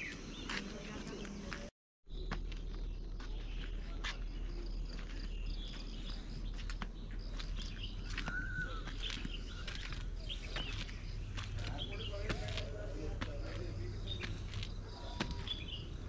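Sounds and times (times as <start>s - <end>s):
birds chirping: 0.0s - 16.0s
footsteps on stone steps: 0.0s - 16.0s.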